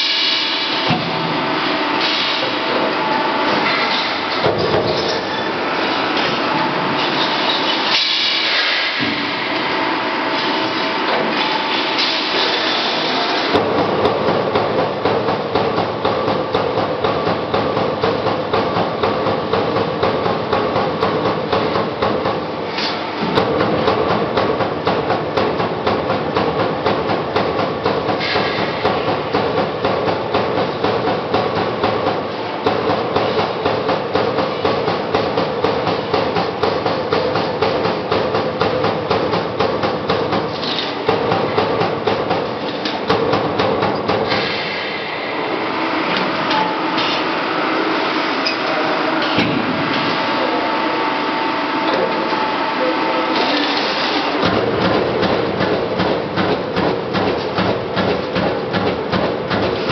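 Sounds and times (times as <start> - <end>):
machine running noise: 0.0 - 59.9.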